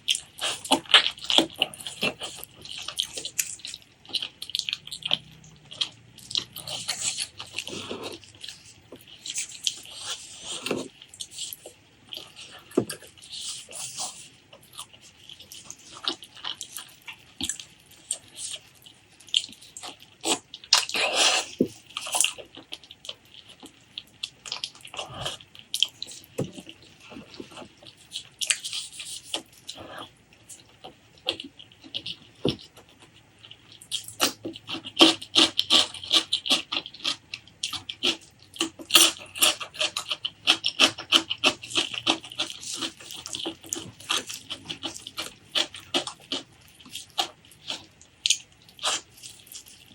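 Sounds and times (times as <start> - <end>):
wet chewing and lip-smacking: 0.0 - 49.9.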